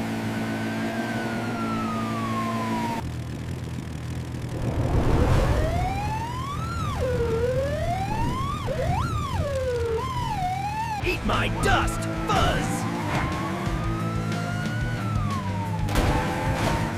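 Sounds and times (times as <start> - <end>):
vehicle engine hum: 0.0 - 16.9
police siren wailing: 0.2 - 3.0, 4.9 - 16.9.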